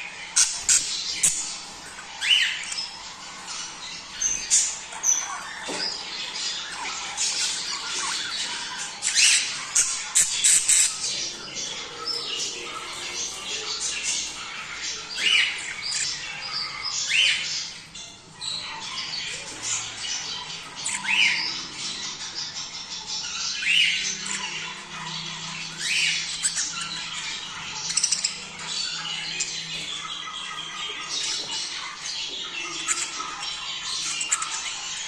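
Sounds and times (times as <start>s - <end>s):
budgerigars chattering: 0.0s - 35.0s.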